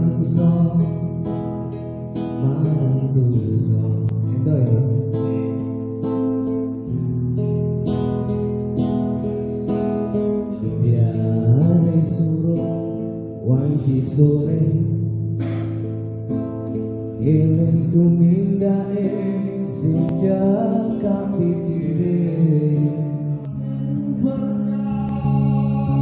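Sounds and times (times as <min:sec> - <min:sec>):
person singing slow melody: 0:00.0 - 0:06.6, 0:08.8 - 0:26.0
acoustic guitar strumming: 0:00.0 - 0:26.0.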